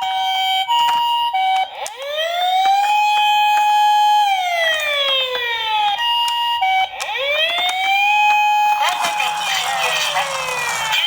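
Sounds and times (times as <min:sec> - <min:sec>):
toy siren wailing: 0:00.0 - 0:11.0.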